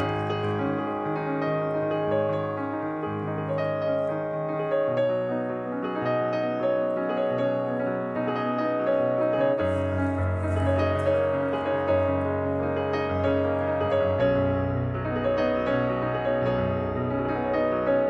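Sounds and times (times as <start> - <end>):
soft piano chords: 0.0 - 18.0.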